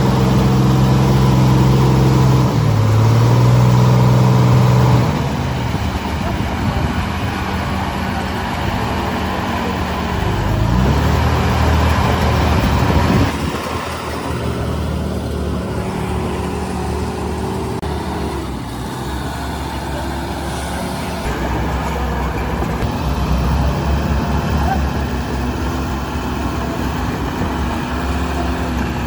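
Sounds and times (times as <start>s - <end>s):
heavy diesel engine revving: 0.0s - 29.0s.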